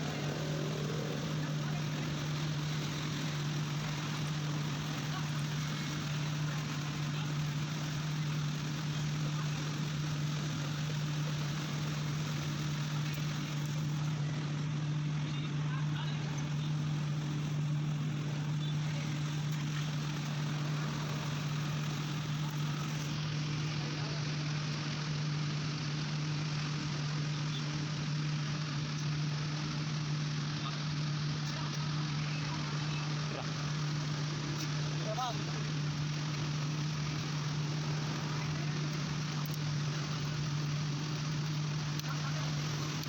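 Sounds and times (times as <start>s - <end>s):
buffing machine humming: 0.0s - 43.0s.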